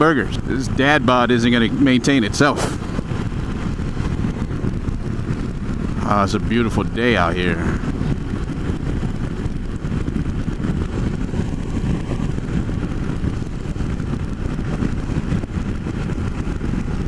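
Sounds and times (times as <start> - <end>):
motorcycle engine drone: 0.0 - 17.0
wind rush on microphone: 0.0 - 17.0.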